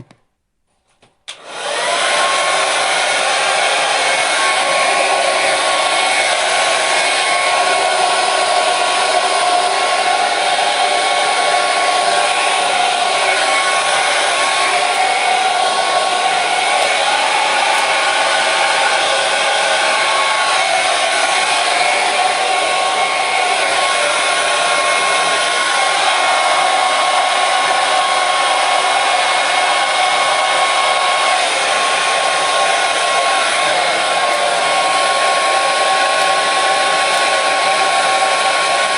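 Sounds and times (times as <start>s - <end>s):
hair dryer running: 1.3s - 38.9s.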